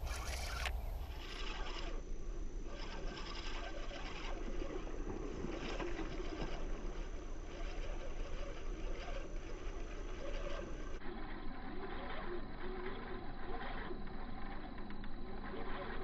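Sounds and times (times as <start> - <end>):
spinning reel cranking: 0.0 - 16.0.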